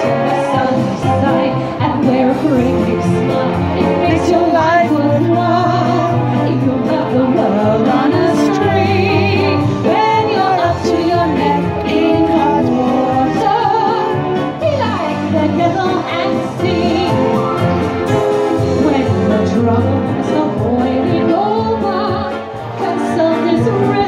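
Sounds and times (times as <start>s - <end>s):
backing track with bass notes: 0.0s - 24.0s
woman singing into microphone: 0.0s - 24.0s.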